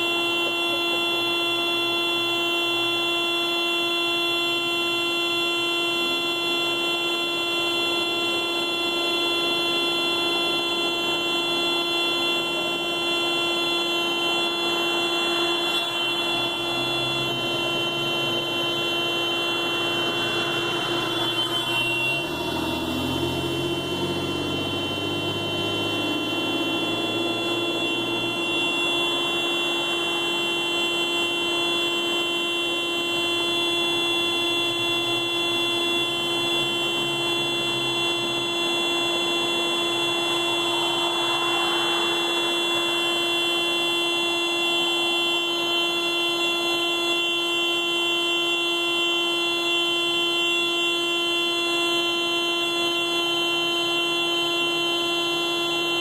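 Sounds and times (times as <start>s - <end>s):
car horn steady tone: 0.0s - 56.0s.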